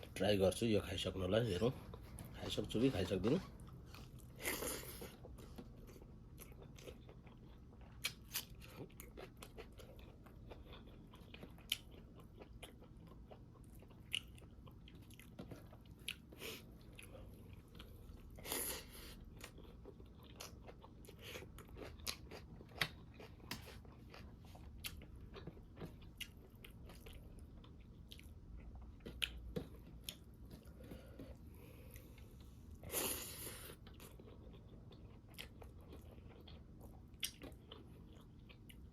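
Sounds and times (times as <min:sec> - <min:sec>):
chewing crunchy food: 0:01.7 - 0:38.9.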